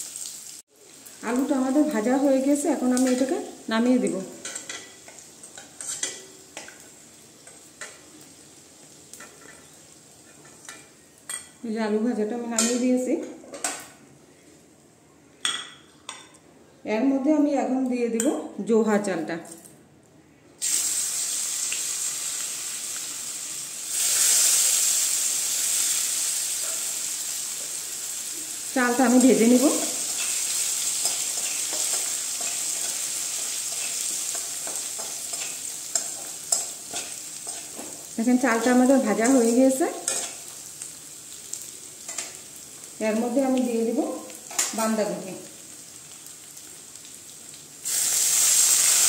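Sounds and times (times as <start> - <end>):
potatoes sizzling in oil: 0.0 - 11.3, 20.6 - 49.0.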